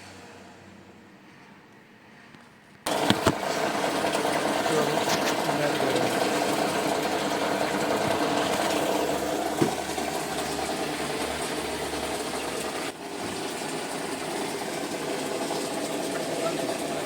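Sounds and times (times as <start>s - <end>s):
washing machine hum: 2.9s - 17.0s.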